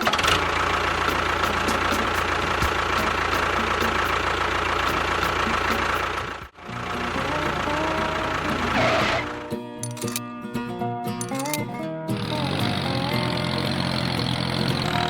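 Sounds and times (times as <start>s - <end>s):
engine idling with faint whine: 0.0s - 9.4s, 12.2s - 15.0s.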